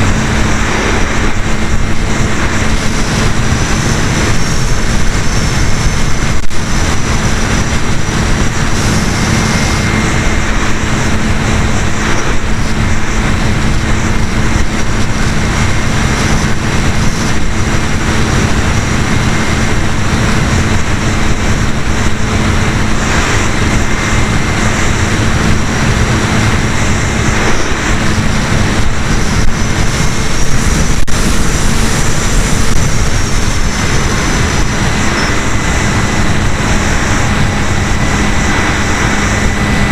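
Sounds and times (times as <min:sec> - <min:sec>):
electric motor and propeller: 0:00.0 - 0:39.9.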